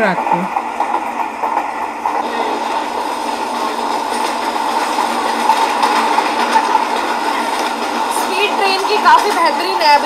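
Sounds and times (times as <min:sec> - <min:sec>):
train wheel and wind rush: 0:00.0 - 0:10.0.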